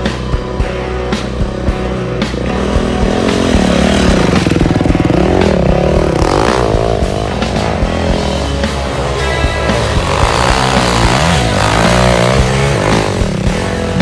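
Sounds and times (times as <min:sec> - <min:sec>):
background music with steady beat: 0:00.0 - 0:14.0
dirt bike engine revving: 0:00.4 - 0:14.0.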